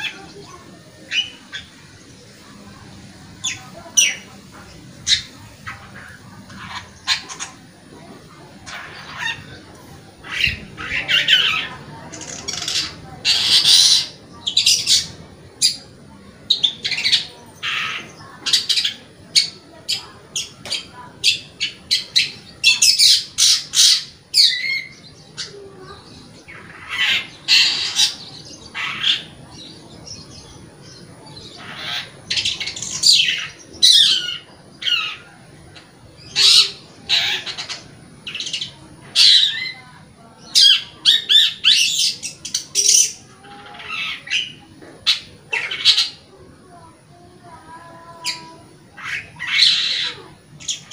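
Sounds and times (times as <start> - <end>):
shrike chattering song: 0.0 - 46.3, 47.7 - 50.9.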